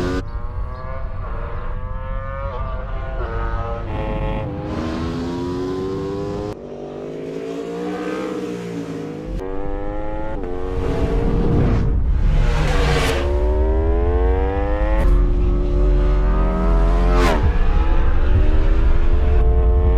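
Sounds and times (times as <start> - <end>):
motorcycle engines revving: 0.0 - 19.9.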